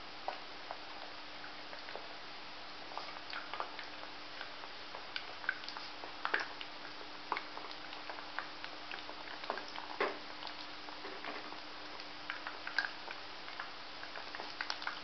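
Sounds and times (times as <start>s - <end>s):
crackles and pops: 0.0s - 15.0s
dough frying in oil: 0.0s - 15.0s.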